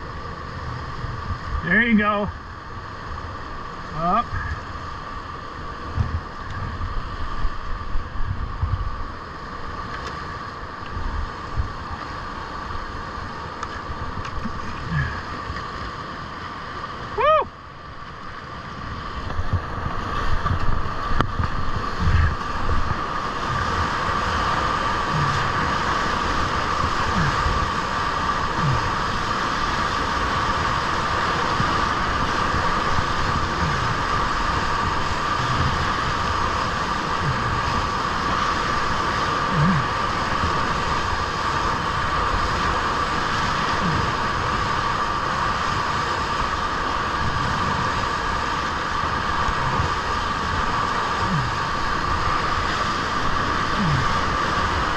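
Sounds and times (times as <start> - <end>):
whitewater rushing: 0.0 - 54.9
water splashing against boat: 3.3 - 54.9.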